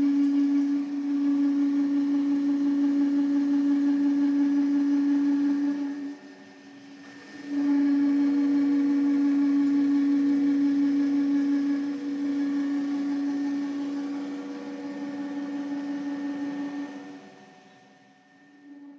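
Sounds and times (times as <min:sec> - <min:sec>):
milling cutter whine: 0:00.0 - 0:18.9.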